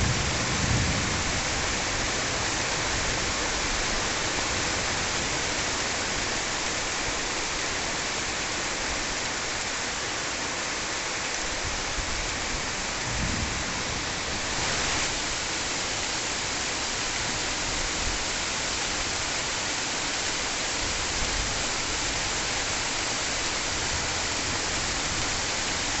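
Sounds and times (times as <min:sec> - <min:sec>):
heavy rain on foliage: 0:00.0 - 0:26.0.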